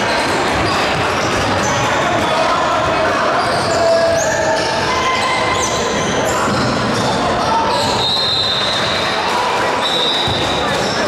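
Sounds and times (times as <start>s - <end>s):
indistinct chatter in echoing hall: 0.0s - 11.0s.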